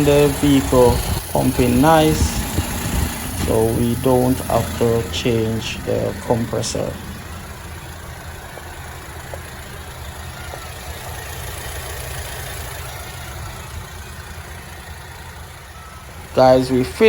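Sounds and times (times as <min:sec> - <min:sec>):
ac compressor running: 0:00.0 - 0:17.0
car engine idling: 0:00.0 - 0:17.0.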